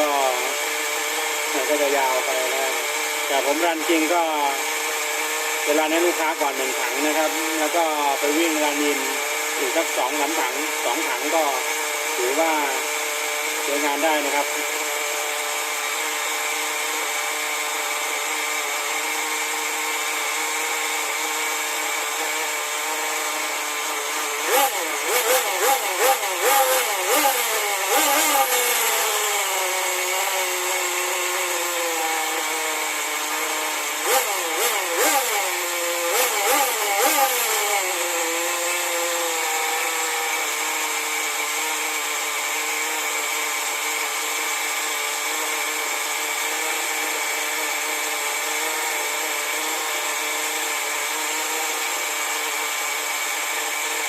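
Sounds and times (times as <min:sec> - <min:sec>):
nitro engine idling and revving: 0:00.0 - 0:54.0.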